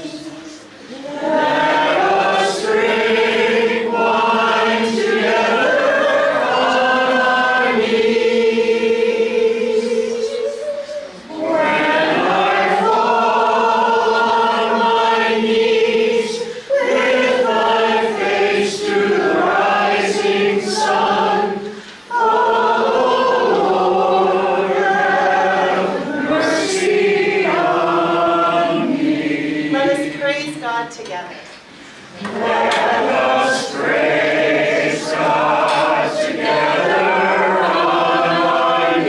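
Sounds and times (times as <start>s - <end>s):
congregation singing: 0.0s - 30.9s, 31.6s - 39.0s.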